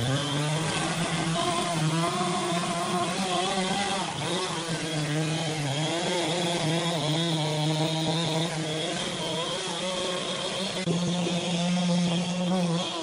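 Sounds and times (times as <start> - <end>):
chainsaw cutting a log: 0.0 - 13.0.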